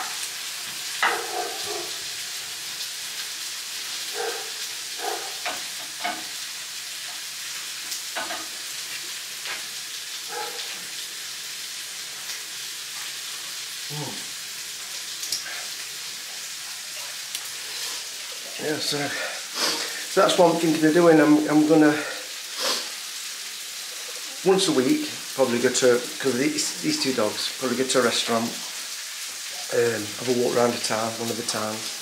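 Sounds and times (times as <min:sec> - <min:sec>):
vegetables sizzling in a pan: 0:00.0 - 0:32.0.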